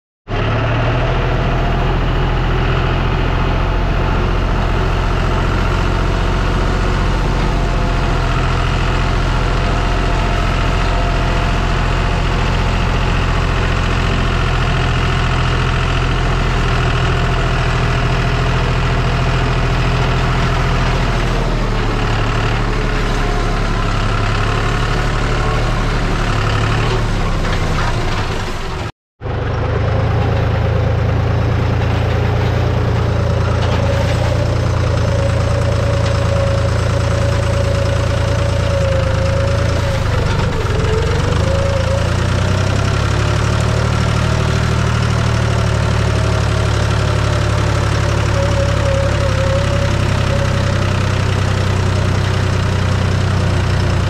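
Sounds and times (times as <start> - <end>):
tractor engine running: 0.3 - 54.0.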